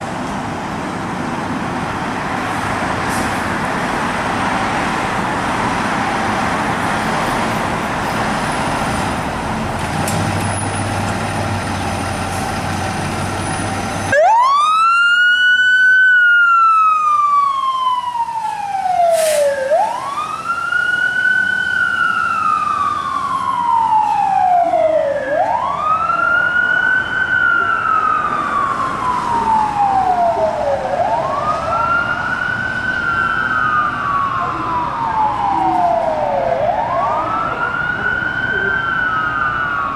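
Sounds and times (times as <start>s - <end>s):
road traffic noise: 0.0s - 39.9s
fire engine siren wailing: 0.5s - 9.8s, 10.6s - 39.9s.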